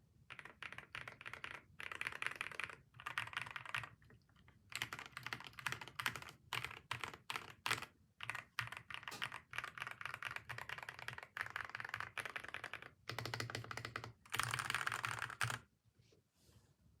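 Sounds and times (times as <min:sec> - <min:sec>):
mechanical keyboard typing: 0:00.3 - 0:15.6.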